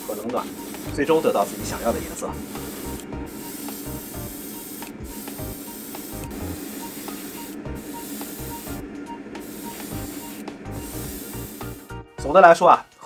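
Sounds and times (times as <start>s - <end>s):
airbrush hissing: 0.0s - 12.1s.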